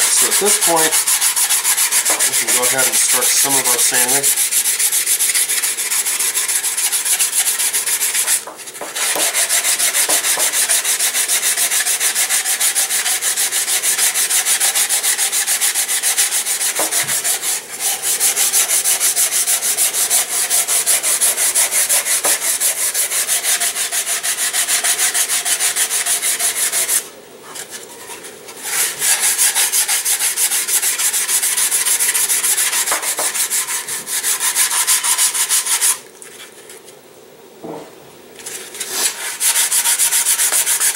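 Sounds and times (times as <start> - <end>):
sandpaper sanding wood: 0.0 - 36.5, 38.4 - 40.9.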